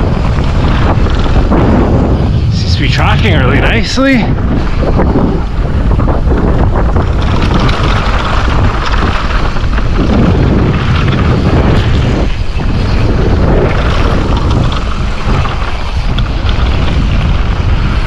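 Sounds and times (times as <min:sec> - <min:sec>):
bike rattling and knocking: 0:00.0 - 0:18.0
bike tyres rumbling on dirt: 0:00.0 - 0:18.0
wind rushing over microphone: 0:00.0 - 0:18.0.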